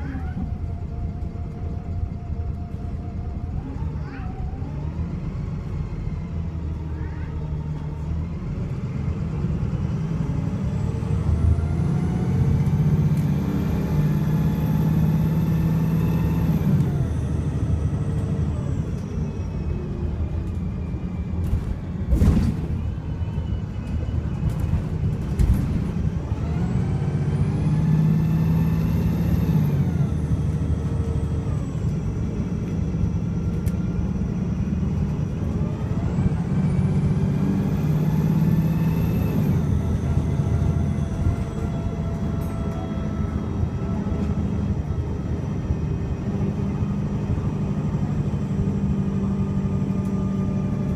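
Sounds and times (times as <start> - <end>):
bus diesel engine accelerating: 0.0 - 50.9.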